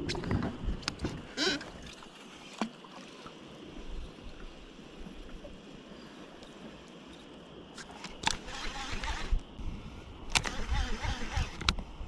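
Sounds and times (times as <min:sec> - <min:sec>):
water lapping around kayak: 0:00.0 - 0:12.0.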